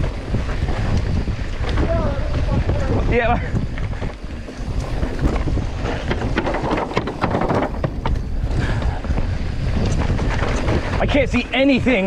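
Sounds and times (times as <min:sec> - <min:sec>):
tyres rumbling over dirt and rocks: 0:00.0 - 0:11.4
bike rattling and clacking: 0:00.0 - 0:12.0
wind buffeting microphone: 0:00.0 - 0:12.0.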